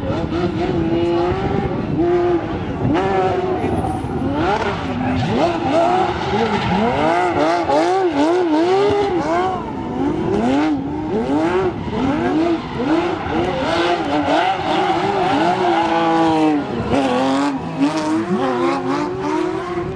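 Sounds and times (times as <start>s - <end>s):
race car engines revving: 0.0s - 19.9s.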